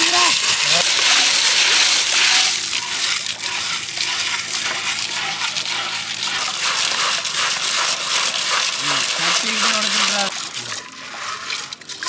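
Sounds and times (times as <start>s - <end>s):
water sloshing in clay pot: 0.0s - 12.0s.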